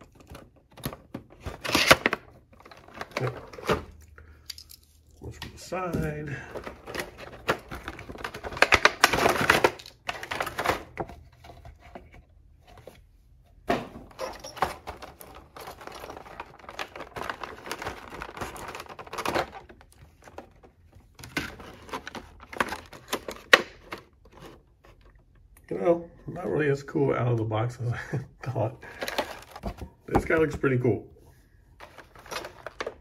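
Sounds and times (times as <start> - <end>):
plastic rustling and crinkling: 0.0 - 13.1, 14.0 - 25.4, 28.8 - 30.6, 31.7 - 33.0.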